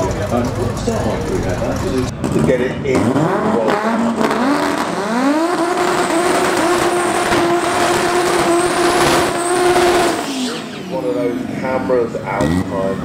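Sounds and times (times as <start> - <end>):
turbocharged car engine revving: 0.0 - 13.0.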